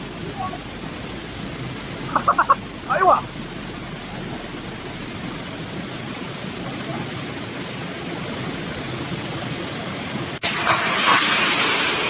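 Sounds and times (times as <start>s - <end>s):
torrential rain and floodwater rushing: 0.0s - 12.0s.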